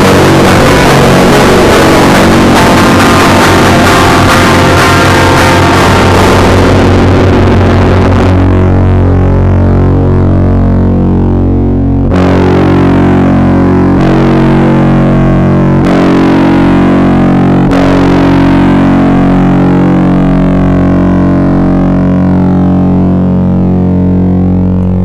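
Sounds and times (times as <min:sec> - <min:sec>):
loud droning music: 0:00.0 - 0:25.0.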